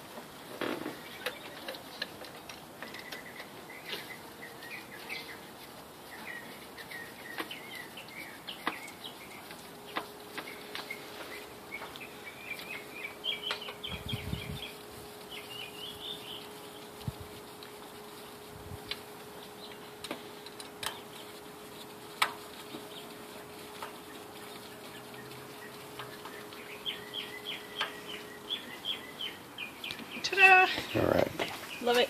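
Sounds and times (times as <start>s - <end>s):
birds chirping: 0.6s - 18.5s, 19.1s - 32.0s.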